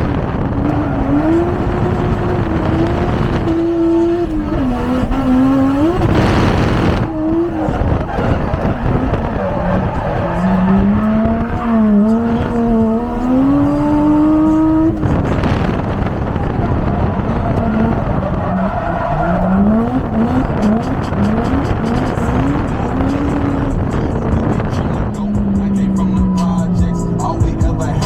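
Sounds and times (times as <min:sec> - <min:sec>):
car engine revving: 0:00.0 - 0:28.0
tires squealing: 0:00.0 - 0:28.0.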